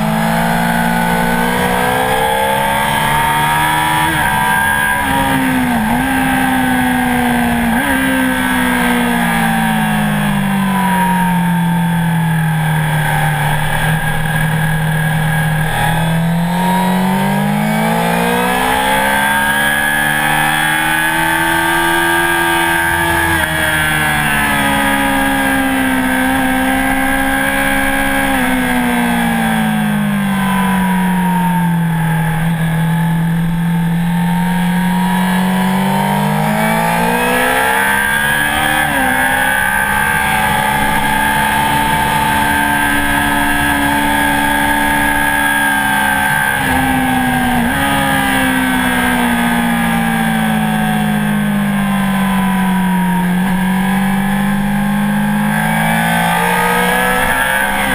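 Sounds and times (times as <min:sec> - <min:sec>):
motorcycle engine at speed: 0:00.0 - 0:57.9.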